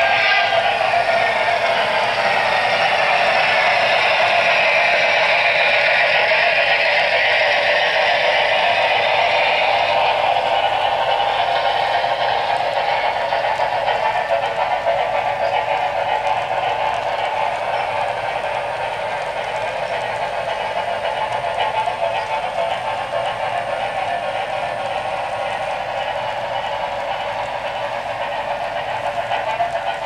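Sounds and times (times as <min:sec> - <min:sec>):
model train wheels rumbling on rails: 0:00.0 - 0:30.0.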